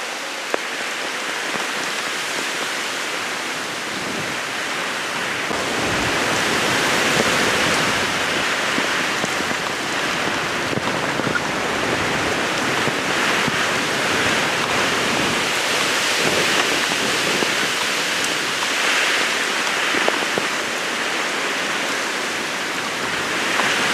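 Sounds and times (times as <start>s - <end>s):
heavy rain: 0.0s - 23.9s.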